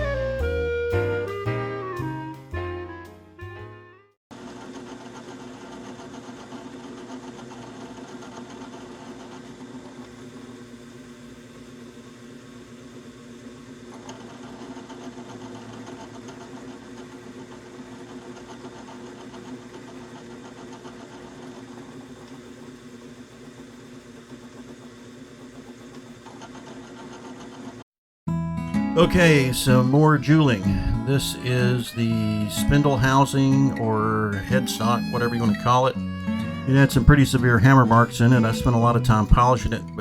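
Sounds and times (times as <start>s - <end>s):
motor humming: 4.3s - 27.8s, 29.1s - 40.0s.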